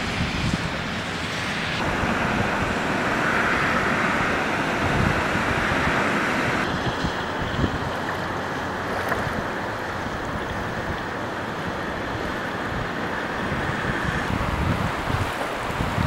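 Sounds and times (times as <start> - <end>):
wind on microphone: 0.0 - 16.0
river water rushing: 1.8 - 16.0.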